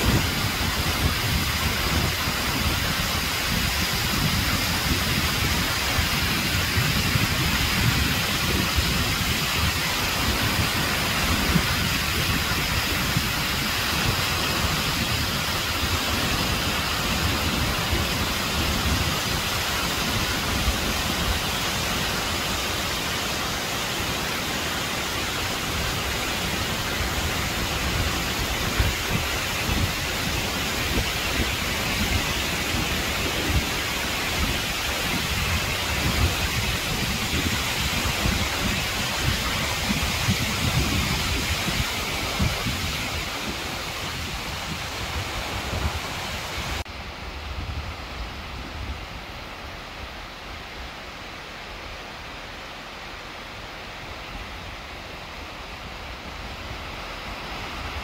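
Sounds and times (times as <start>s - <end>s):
waterfall rushing onto rock: 0.0s - 47.0s.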